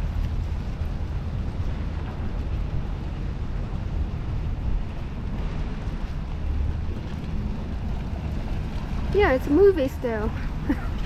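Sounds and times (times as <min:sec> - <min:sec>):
street background noise: 0:00.0 - 0:11.0
wind rumble on microphone: 0:00.0 - 0:11.0.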